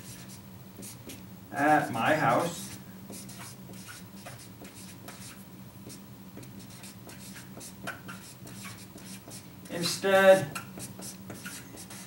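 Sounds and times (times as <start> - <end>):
marker scratching on paper: 0.0 - 12.0.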